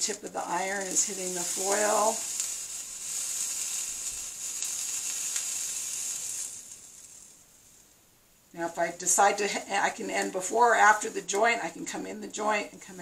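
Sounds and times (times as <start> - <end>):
solder sizzling: 0.0 - 13.0.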